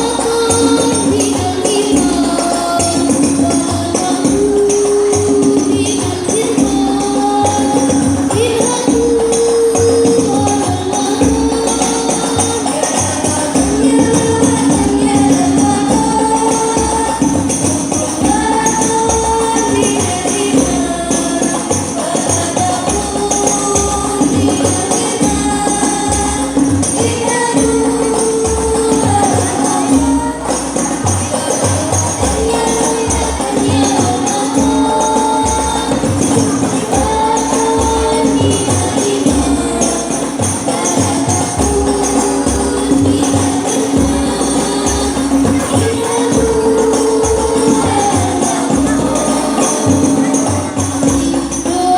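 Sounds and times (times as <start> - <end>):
hand-beaten frame drums: 0.0 - 51.9
person singing devotional melody: 0.0 - 51.9.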